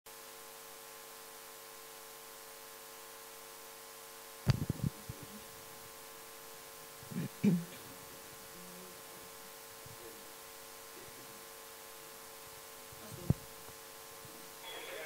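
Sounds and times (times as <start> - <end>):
faint hum and hiss: 0.1 - 15.0.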